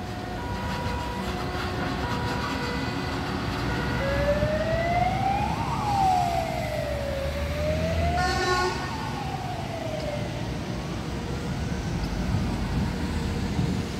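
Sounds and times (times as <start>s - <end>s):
fire engine siren wailing: 0.0s - 13.9s
low traffic rumble: 0.0s - 13.9s.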